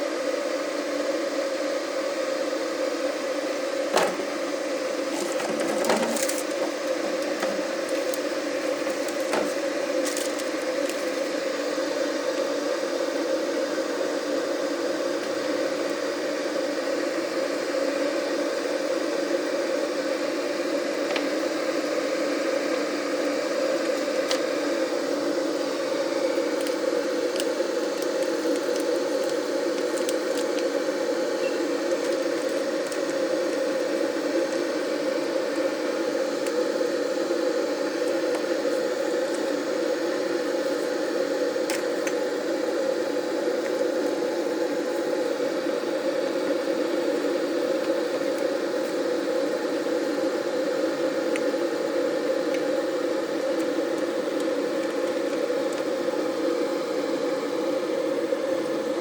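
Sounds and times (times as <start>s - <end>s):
electric kettle heating water: 0.0s - 59.0s.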